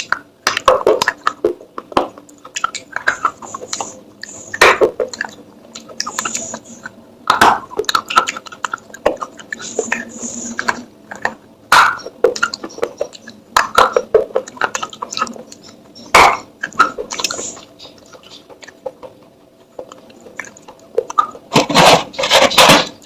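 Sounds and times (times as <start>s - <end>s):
clay pottery clicking and scraping: 0.0s - 23.0s.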